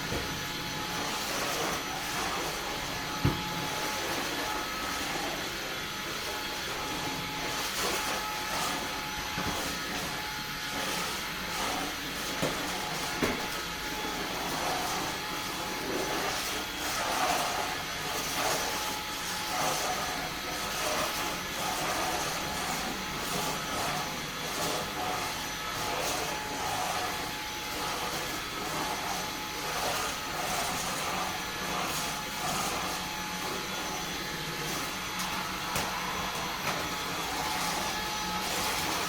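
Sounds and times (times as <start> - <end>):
stick vacuum running: 0.0 - 39.0.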